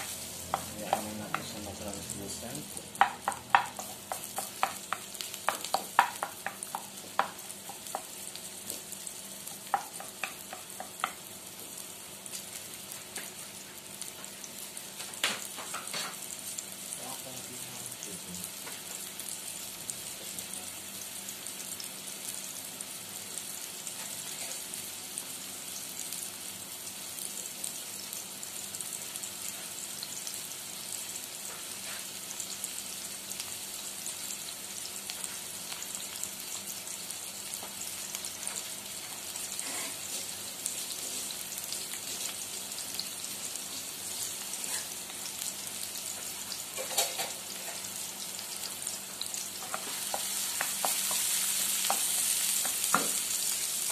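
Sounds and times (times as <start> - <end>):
onions sizzling in hot oil: 0.0 - 53.9.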